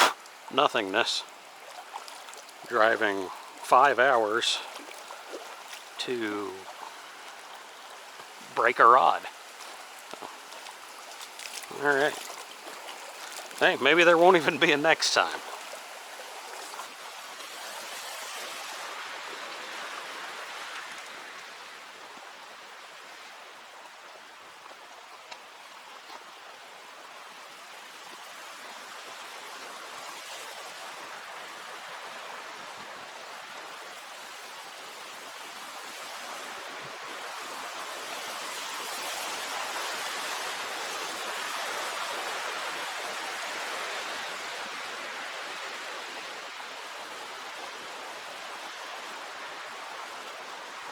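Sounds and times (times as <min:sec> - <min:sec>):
creek water rushing: 0:00.0 - 0:50.9.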